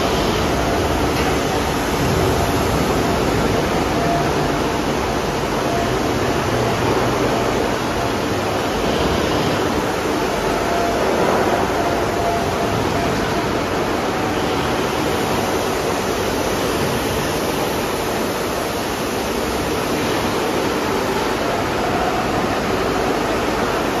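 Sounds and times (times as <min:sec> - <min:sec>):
factory machinery hiss and hum: 0:00.0 - 0:24.0.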